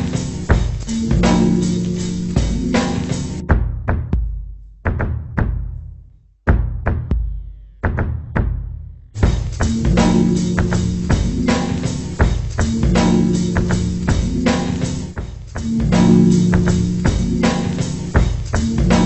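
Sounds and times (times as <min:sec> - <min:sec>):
music with drums guitar and bass: 0:00.0 - 0:05.7, 0:09.2 - 0:19.0.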